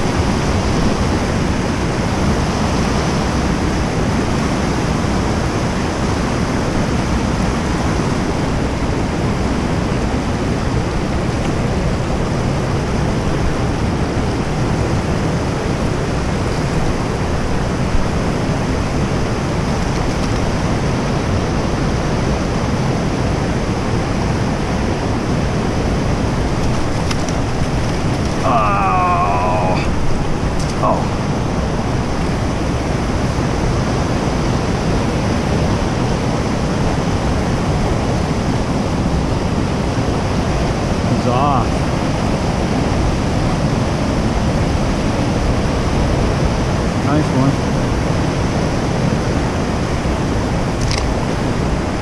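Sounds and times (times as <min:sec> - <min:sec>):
creek water rushing: 0:00.0 - 0:52.0.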